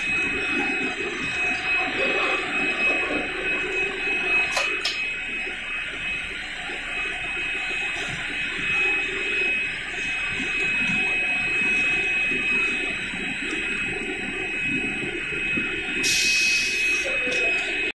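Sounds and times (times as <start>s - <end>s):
heat-sealing machine whine: 0.0s - 18.0s.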